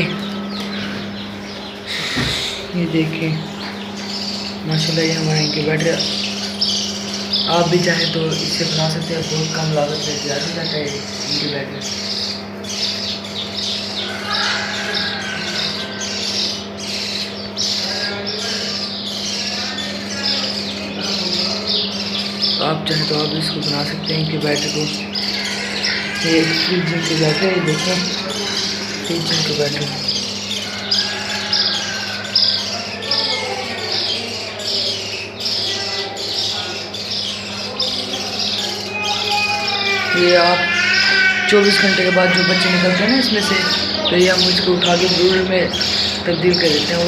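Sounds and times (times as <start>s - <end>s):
chicks peeping: 0.0s - 47.0s
steady low hum: 0.0s - 47.0s.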